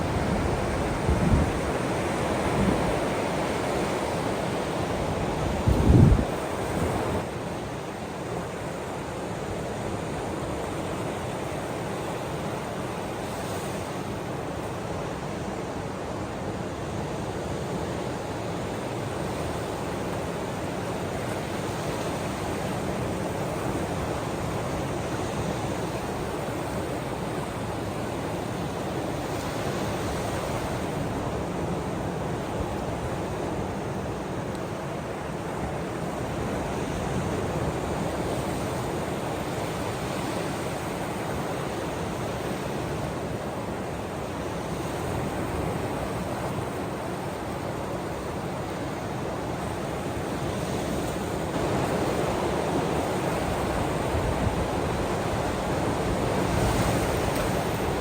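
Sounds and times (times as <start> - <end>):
ocean surf washing on shore: 0.0 - 58.0.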